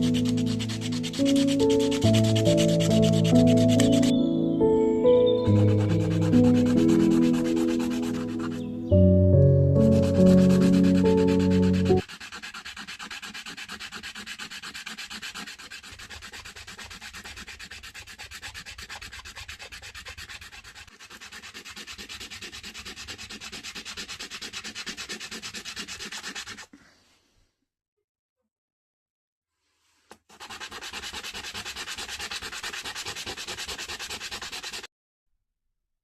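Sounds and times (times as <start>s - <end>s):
sandpaper rubbing on wood: 0.0s - 4.1s, 5.4s - 8.7s, 9.8s - 26.7s, 30.2s - 34.9s.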